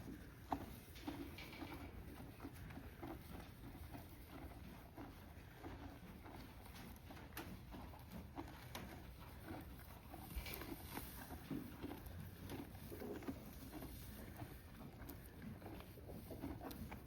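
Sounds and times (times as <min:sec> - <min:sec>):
horse chewing hay: 0:00.0 - 0:17.0.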